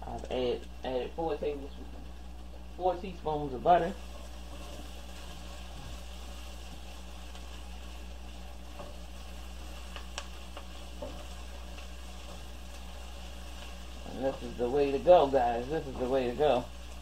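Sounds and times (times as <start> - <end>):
steady low hum: 0.0 - 17.0
vegetables sizzling in pot: 0.0 - 17.0.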